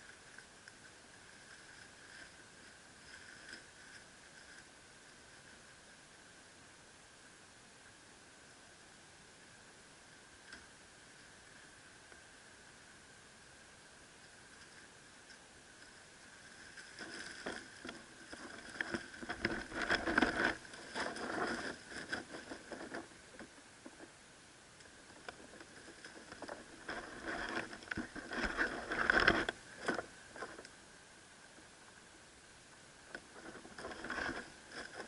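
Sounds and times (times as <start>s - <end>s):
rustling of dry leaves: 0.0s - 35.0s.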